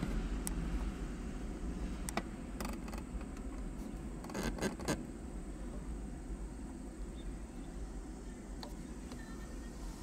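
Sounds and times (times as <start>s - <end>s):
distant road traffic rumbling: 0.0s - 10.0s.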